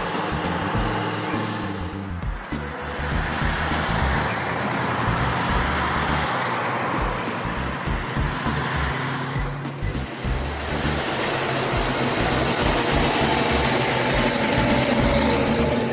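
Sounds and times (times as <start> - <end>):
car engines running: 0.0 - 15.9
traffic noise: 0.0 - 15.9.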